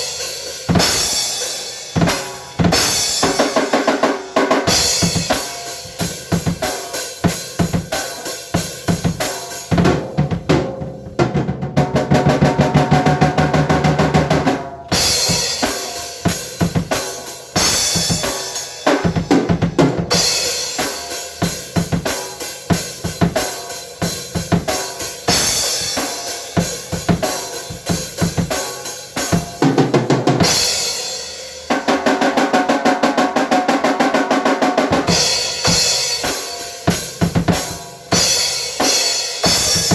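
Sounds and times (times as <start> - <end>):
drum kit playing fast: 0.0 - 39.9.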